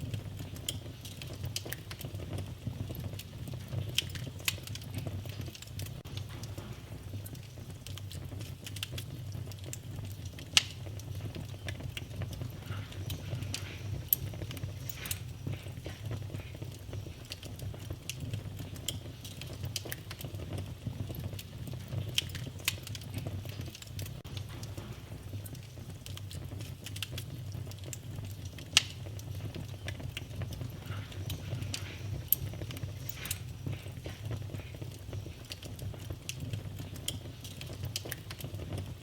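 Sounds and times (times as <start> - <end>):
low rumble of flames: 0.0 - 39.0
wood fire crackling and popping: 0.0 - 39.0.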